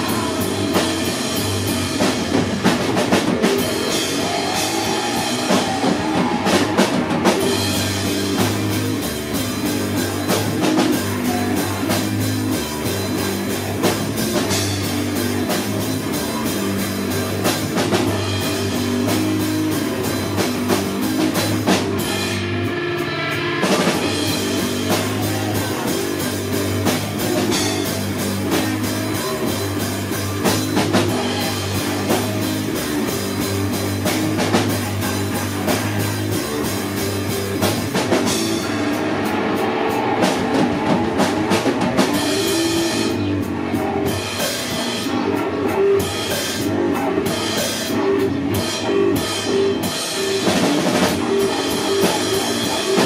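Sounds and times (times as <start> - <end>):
bass guitar: 0.0 - 53.0
drum kit: 0.0 - 53.0
electric guitar: 0.0 - 53.0.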